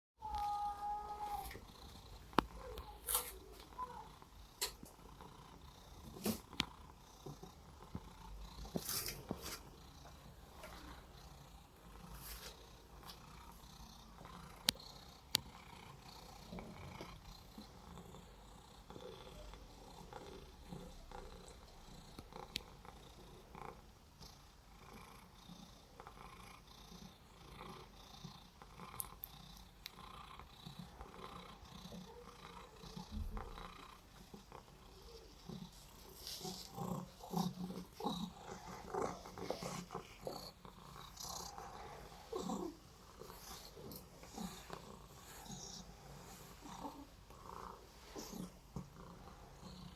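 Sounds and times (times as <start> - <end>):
cat purring: 0.5 - 49.9.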